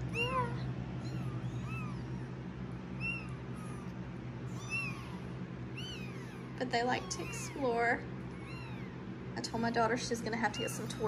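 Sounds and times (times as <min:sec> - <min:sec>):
kittens mewing: 0:00.0 - 0:09.2
fan humming: 0:00.0 - 0:11.0.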